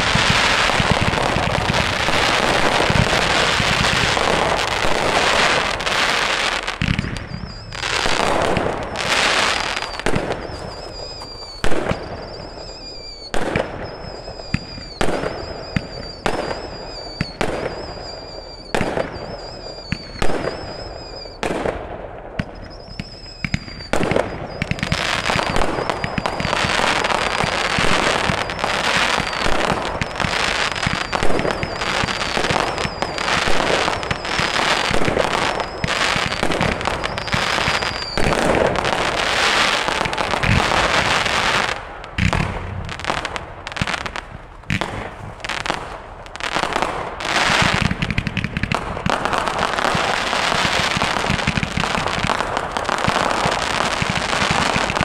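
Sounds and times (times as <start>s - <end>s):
fireworks shells bursting: 0.0s - 21.4s, 22.4s - 55.0s
dense fireworks crackling: 0.0s - 55.0s
fireworks whistling: 0.0s - 55.0s.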